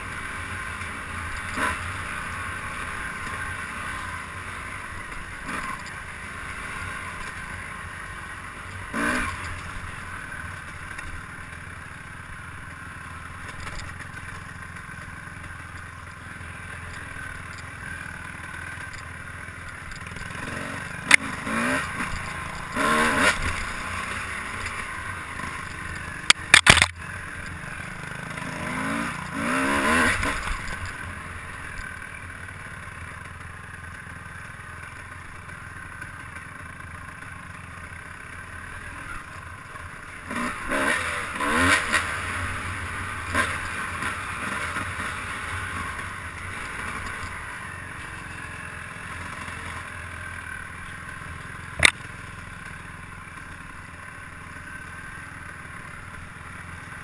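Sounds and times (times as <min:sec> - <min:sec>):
vehicle running steadily: 0:00.0 - 0:57.0.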